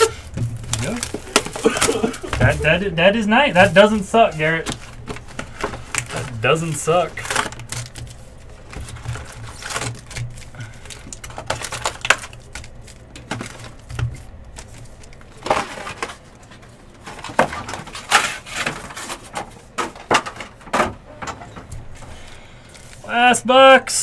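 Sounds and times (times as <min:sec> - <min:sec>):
cards and packaging rustling: 0:00.0 - 0:23.4.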